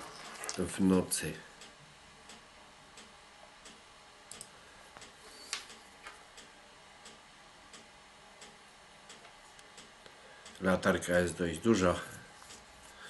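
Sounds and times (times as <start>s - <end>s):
faint regular ticking: 0.2s - 13.0s.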